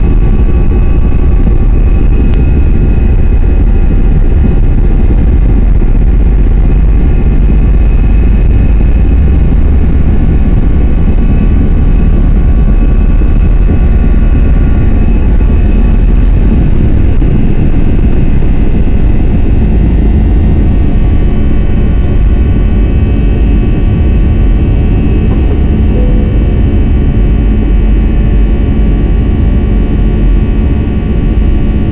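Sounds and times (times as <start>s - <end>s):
high engine whine: 0.0s - 31.9s
jet engine low rumble: 0.0s - 31.9s.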